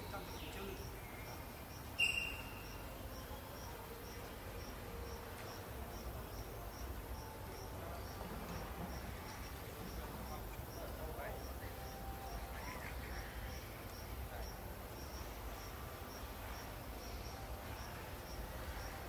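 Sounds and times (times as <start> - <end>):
background hiss: 0.0 - 19.0
insect chirping: 0.0 - 19.0.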